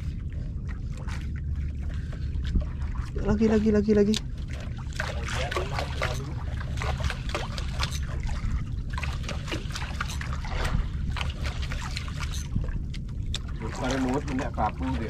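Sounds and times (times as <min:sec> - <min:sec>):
steady low rumble: 0:00.0 - 0:15.0
water slapping against boat hull: 0:00.0 - 0:15.0.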